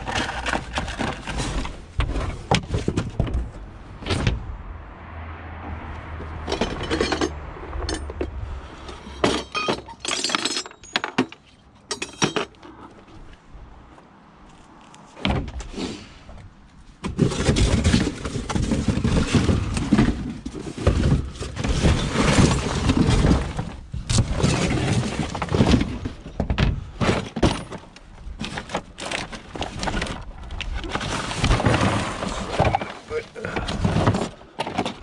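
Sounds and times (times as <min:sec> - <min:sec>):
hard objects clattering: 0:00.0 - 0:03.6, 0:06.4 - 0:13.0, 0:17.0 - 0:35.0.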